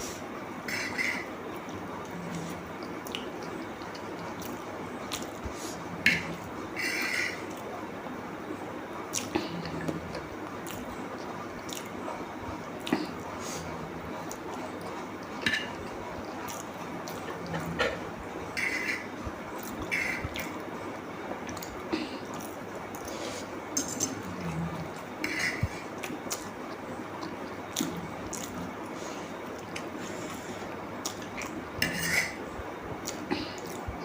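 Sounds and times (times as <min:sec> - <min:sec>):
wet chewing and mouth noises: 0:00.8 - 0:07.7, 0:09.1 - 0:31.7.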